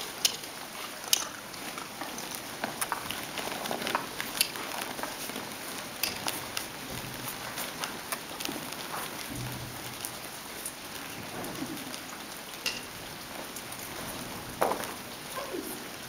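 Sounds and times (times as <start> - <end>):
rain pattering on a roof: 0.0 - 16.0.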